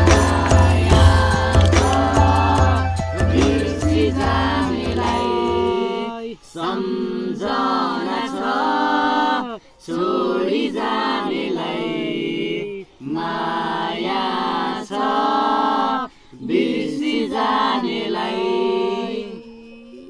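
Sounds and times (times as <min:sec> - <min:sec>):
young voices singing unaccompanied: 0:00.0 - 0:20.0.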